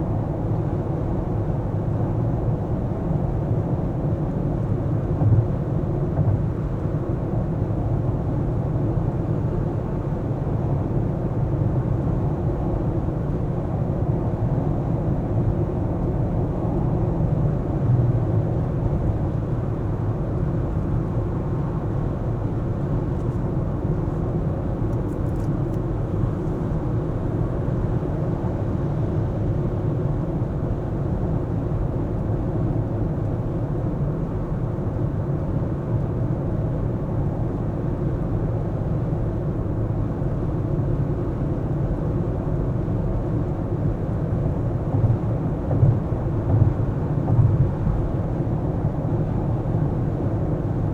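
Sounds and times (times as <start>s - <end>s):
car engine and road noise: 0.1s - 50.9s.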